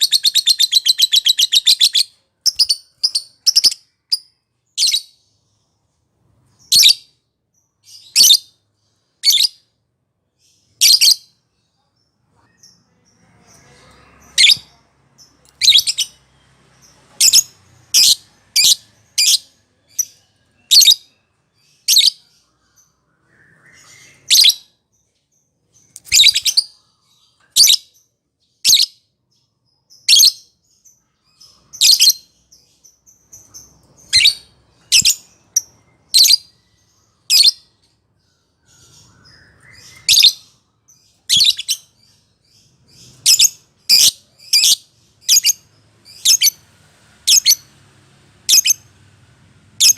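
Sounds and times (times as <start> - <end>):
lovebird chirping: 0.0 - 9.8, 10.4 - 47.8, 48.4 - 48.9.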